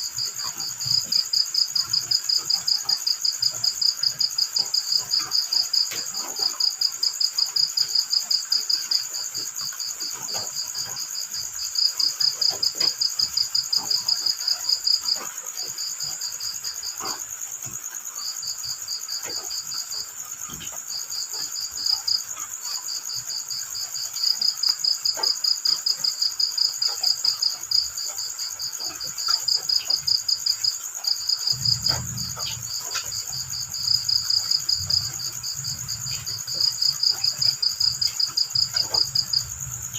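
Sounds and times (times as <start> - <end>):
crickets chirping: 0.0 - 39.9
steady high insect hum: 0.0 - 39.9.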